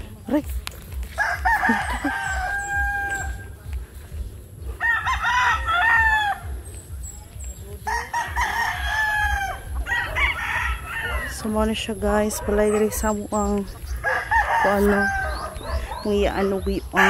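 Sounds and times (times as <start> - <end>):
roosters crowing: 1.0 - 3.7, 4.5 - 6.8, 7.8 - 17.0.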